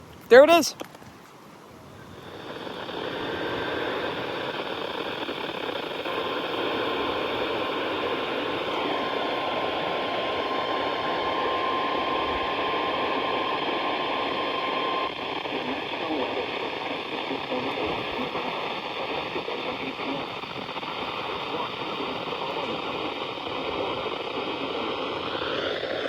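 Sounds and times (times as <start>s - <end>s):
faint steady warning tone: 1.9s - 26.0s
radio static hiss: 1.9s - 26.0s.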